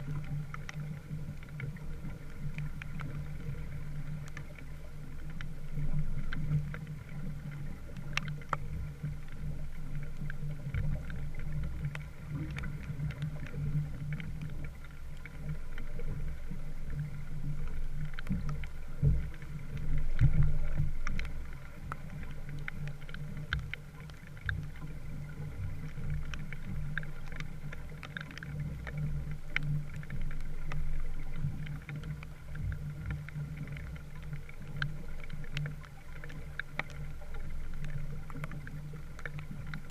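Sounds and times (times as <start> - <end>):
small scattered ticks: 0.0 - 39.9
water rumbling along hull: 0.0 - 39.9.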